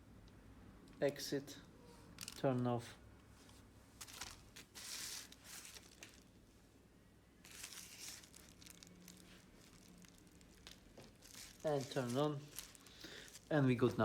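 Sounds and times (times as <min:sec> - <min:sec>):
faint rustling and handling: 0:00.9 - 0:14.0.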